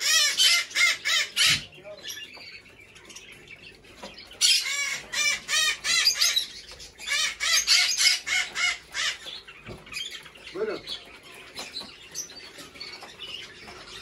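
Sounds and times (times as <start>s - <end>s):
caged birds harsh chirping: 0.0s - 14.0s.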